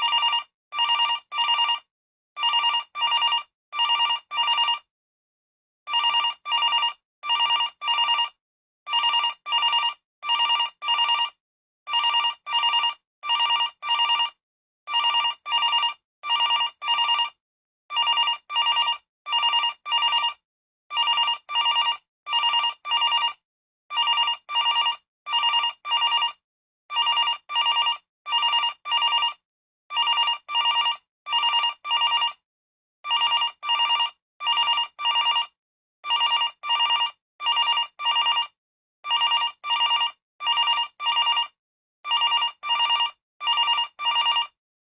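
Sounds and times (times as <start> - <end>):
landline telephone ringing: 0.0 - 4.9, 5.9 - 32.4, 33.1 - 44.6.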